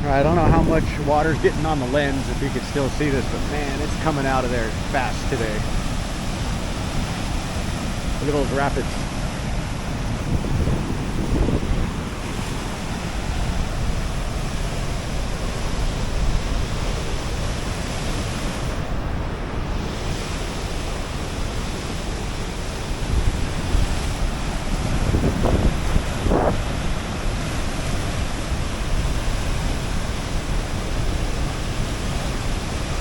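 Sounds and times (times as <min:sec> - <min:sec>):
whitewater rushing: 0:00.0 - 0:33.0
wind buffeting microphone: 0:00.0 - 0:33.0.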